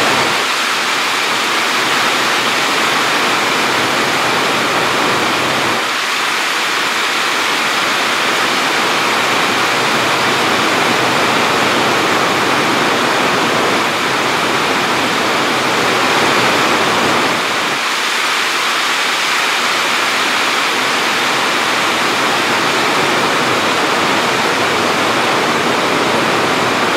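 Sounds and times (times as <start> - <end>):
loud rushing noise: 0.0 - 26.9.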